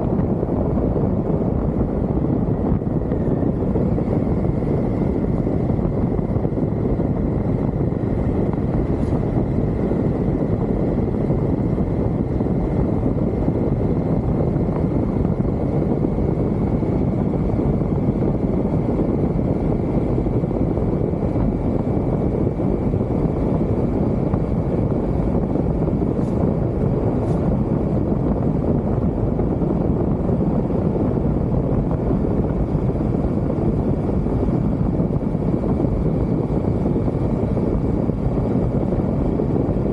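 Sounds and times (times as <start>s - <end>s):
motorcycle engine and wind rumble: 0.0s - 39.9s.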